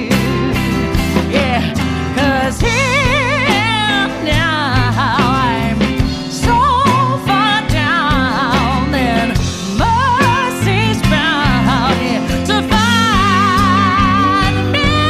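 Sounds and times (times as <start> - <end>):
song with full band: 0.0 - 15.0.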